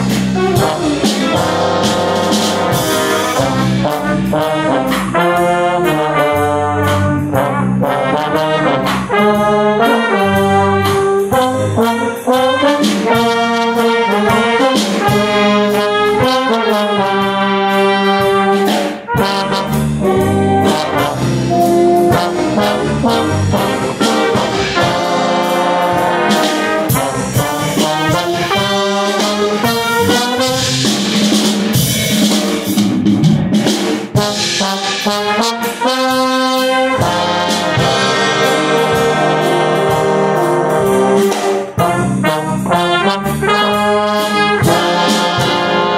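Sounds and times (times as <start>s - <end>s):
trumpets playing: 0.0s - 31.2s, 34.1s - 45.9s
brass ensemble playing: 0.0s - 32.9s, 33.5s - 45.9s
trombone playing close by: 0.1s - 30.9s, 34.1s - 45.9s.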